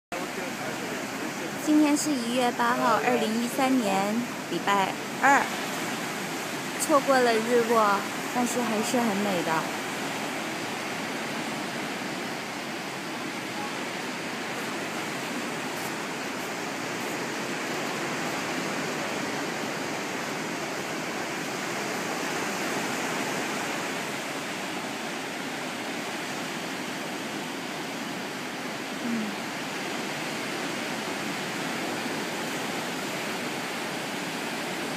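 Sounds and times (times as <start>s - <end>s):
waves breaking over rocks: 0.1s - 34.9s.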